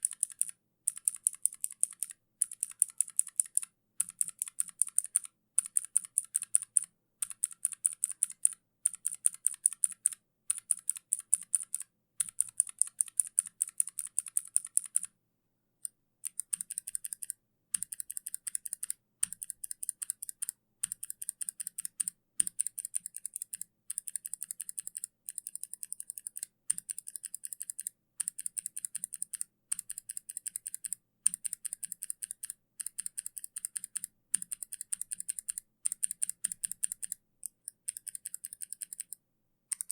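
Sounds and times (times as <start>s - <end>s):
mechanical keyboard typing: 0.0s - 15.1s, 16.2s - 39.9s.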